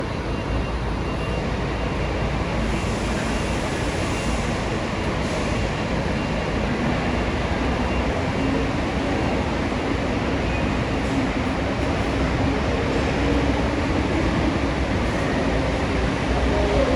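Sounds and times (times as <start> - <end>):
road noise: 0.0 - 16.9.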